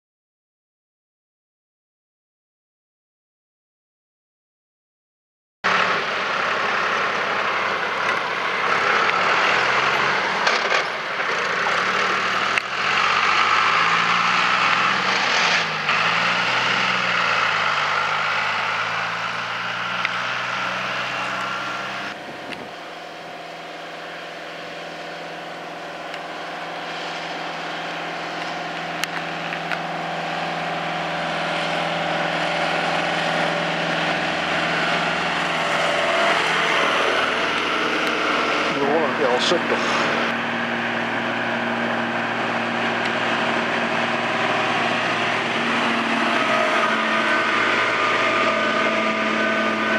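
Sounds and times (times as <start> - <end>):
tractor engine running: 5.6 - 49.9
tractor with flail mower: 5.6 - 49.9.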